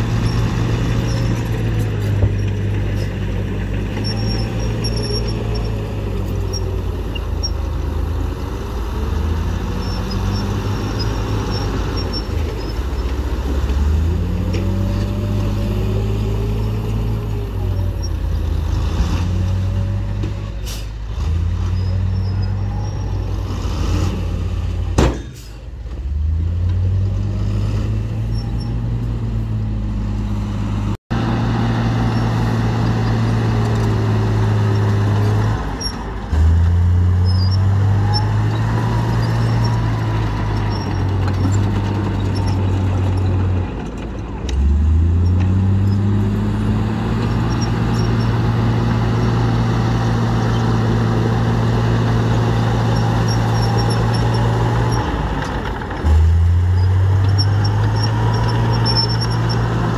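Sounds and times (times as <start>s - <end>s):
bulldozer engine pushing soil: 0.0s - 59.9s
dump truck diesel engine revving: 0.0s - 59.9s.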